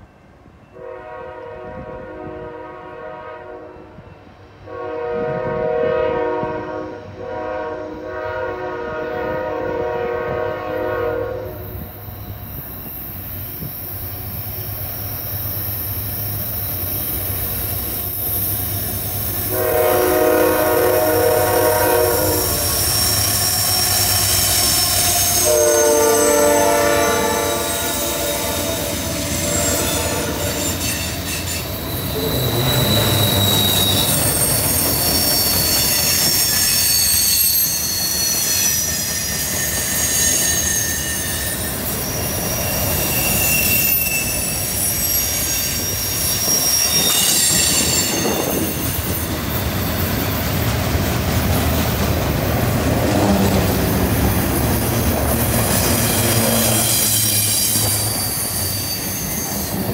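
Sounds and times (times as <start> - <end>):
diesel locomotive rumbling: 0.0 - 59.9
train wheels squealing on rail: 3.8 - 59.9.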